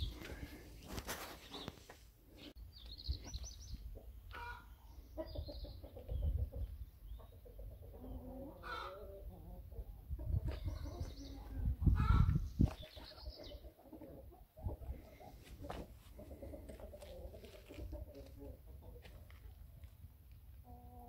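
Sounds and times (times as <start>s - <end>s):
chickens clucking: 3.2s - 21.0s.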